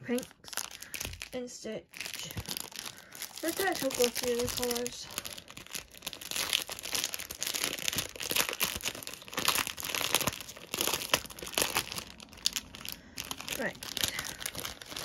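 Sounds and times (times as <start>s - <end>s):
plastic packets crinkling: 0.0s - 15.0s.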